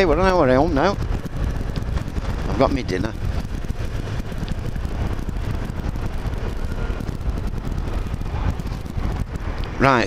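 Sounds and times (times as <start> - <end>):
vehicle rumbling while moving: 0.0 - 10.0
wind buffeting microphone: 0.0 - 10.0.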